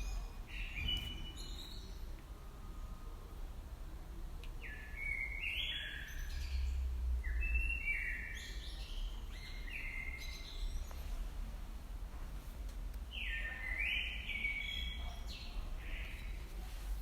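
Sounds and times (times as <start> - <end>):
songbird singing: 0.0 - 3.4, 4.4 - 11.3, 13.0 - 16.6.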